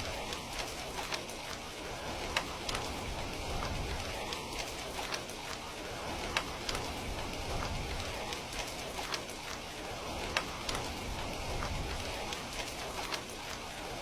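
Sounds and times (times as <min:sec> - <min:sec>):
steady rain: 0:00.0 - 0:14.0
wood fire crackling and popping: 0:00.0 - 0:14.0.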